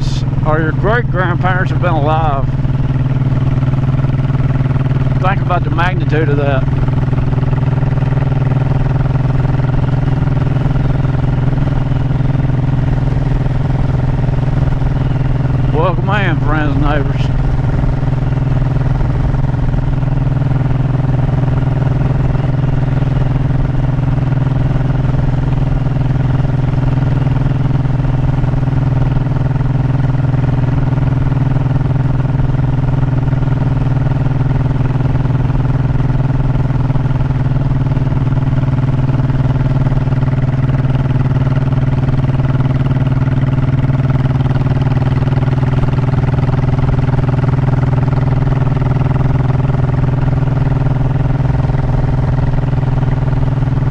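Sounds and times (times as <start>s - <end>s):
motorcycle engine running steadily: 0.0s - 53.9s.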